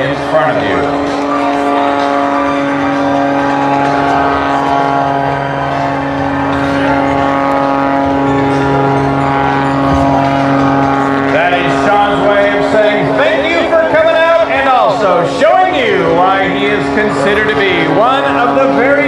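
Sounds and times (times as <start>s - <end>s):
plane engine droning: 0.0s - 19.0s.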